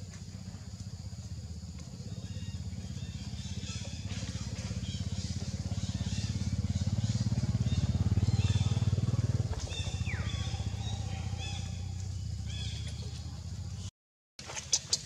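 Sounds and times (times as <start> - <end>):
engine running with low pulse: 0.0 - 13.9.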